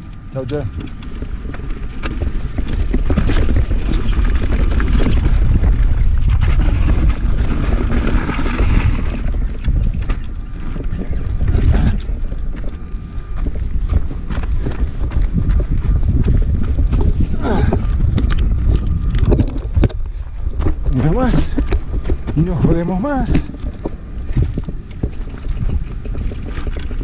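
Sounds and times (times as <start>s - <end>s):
bike rattling and knocking: 0.0s - 27.0s
tyres crunching over gravel: 0.0s - 27.0s
wind rumbling on microphone: 0.0s - 27.0s.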